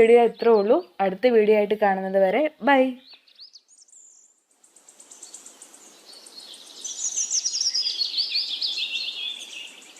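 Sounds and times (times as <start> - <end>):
birds chirping: 0.0 - 9.9
faint steady hiss: 0.0 - 9.9.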